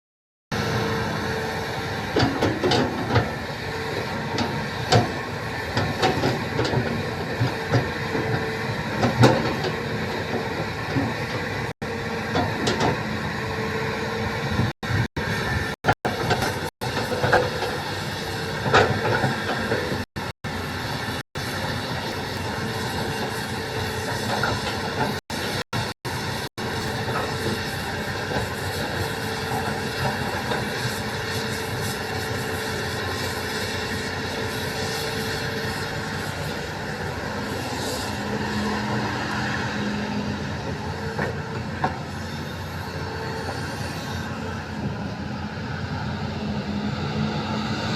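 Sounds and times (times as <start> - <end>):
diesel excavator running: 0.5 - 47.9.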